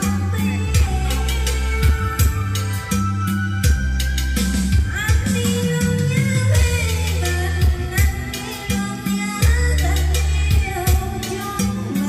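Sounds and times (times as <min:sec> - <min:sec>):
karaoke backing track: 0:00.0 - 0:12.0.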